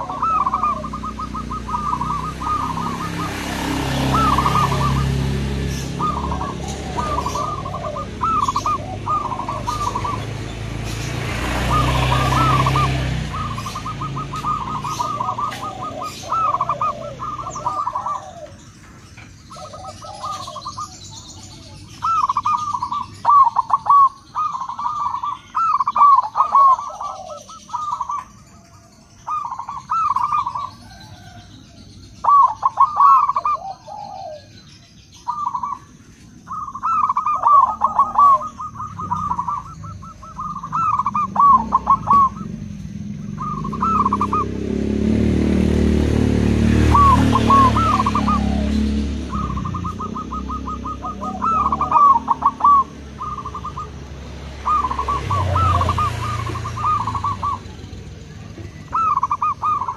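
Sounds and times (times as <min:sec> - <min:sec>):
dove cooing: 0:00.0 - 0:28.3, 0:29.2 - 0:59.9.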